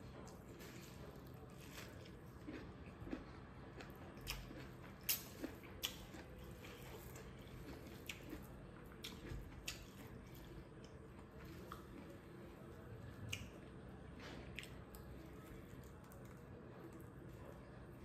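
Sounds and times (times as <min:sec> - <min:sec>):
chewing bamboo shoot: 0:00.1 - 0:18.0.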